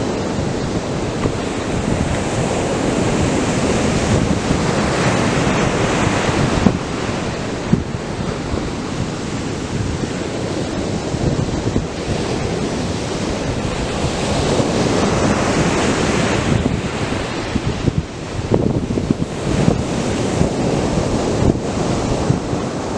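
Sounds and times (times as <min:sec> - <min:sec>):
surf breaking on beach: 0:00.0 - 0:22.9
wind buffeting microphone: 0:00.0 - 0:22.9.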